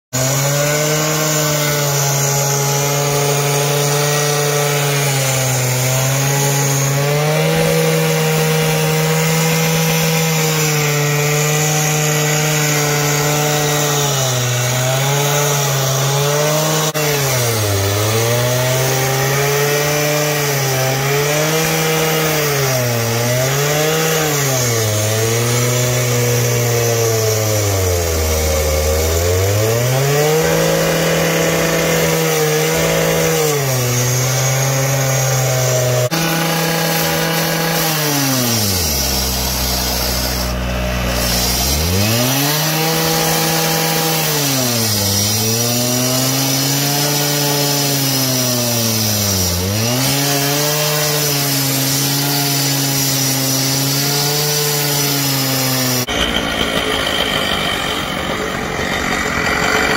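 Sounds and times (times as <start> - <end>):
cut-off saw cutting asphalt: 0.0 - 59.9.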